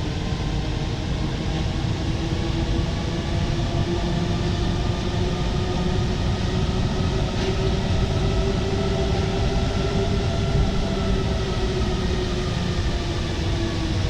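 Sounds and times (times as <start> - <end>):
rumble of train tyres: 0.0 - 14.0.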